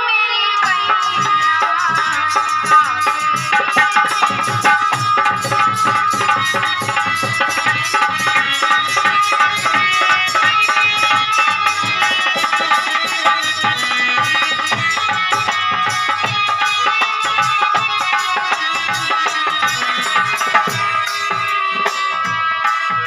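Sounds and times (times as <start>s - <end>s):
tabla fast rhythm: 0.0s - 23.0s
small cymbals jingling: 0.6s - 23.0s.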